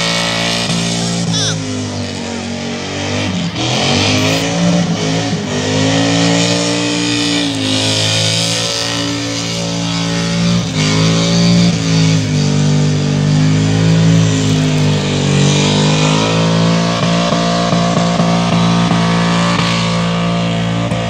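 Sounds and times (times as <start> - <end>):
car engine revving high: 0.0 - 21.0
loud guitar music: 0.0 - 21.0.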